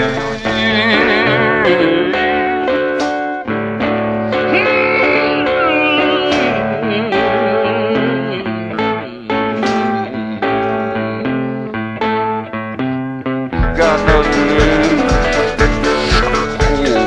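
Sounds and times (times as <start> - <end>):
bass line: 0.0 - 17.0
plucked blues guitar: 0.0 - 17.0.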